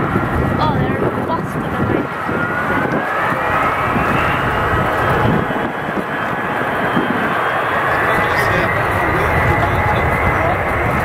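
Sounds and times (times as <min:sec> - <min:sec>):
jet engines rumbling and whining: 0:00.0 - 0:11.0.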